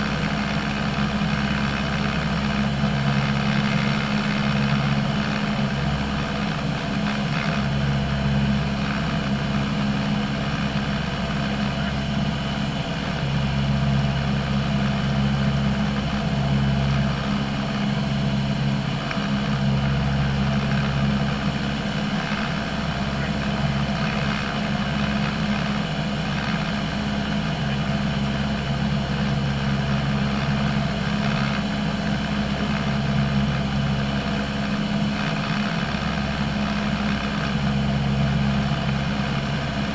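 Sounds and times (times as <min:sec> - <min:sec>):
light aircraft engine drone in cabin: 0:00.0 - 0:39.9.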